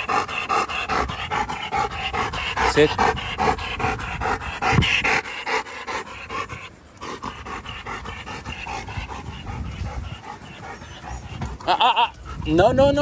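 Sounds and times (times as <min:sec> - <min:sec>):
dog panting fast: 0:00.0 - 0:13.0.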